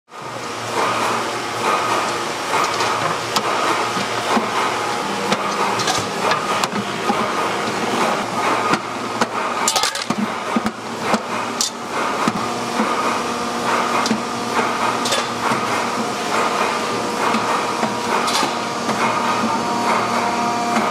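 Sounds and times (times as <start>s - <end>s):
machine hum: 0.1s - 20.9s.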